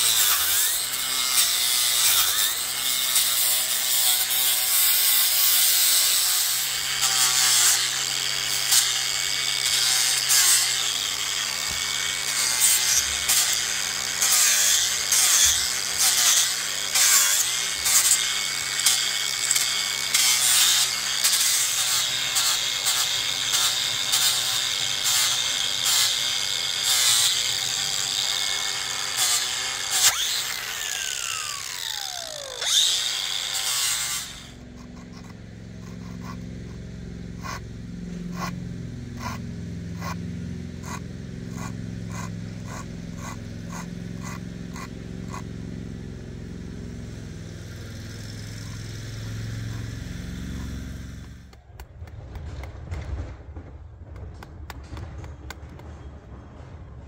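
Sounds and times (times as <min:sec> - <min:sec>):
disc scouring wood: 0:00.0 - 0:46.2
angle grinder whine: 0:00.0 - 0:51.6.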